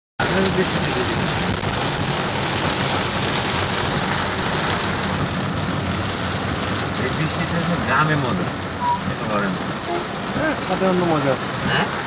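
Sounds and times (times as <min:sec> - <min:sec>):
heavy rain on car: 0:00.2 - 0:12.0
low road noise: 0:00.2 - 0:12.0.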